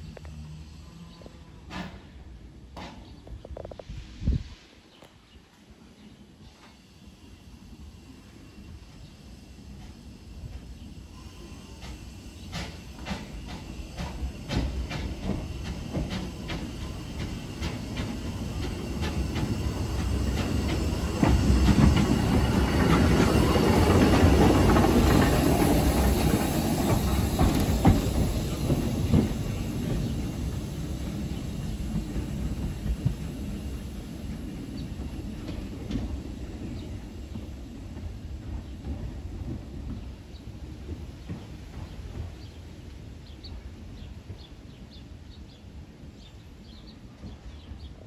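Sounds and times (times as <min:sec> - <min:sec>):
steam locomotive moving slowly: 0:00.0 - 0:48.0.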